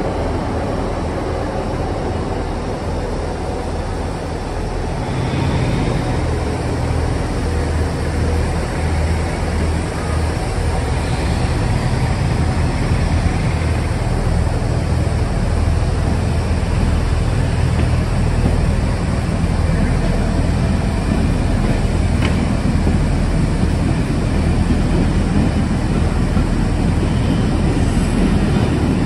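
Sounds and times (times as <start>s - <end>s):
railway coaches rolling past: 0.0s - 29.0s.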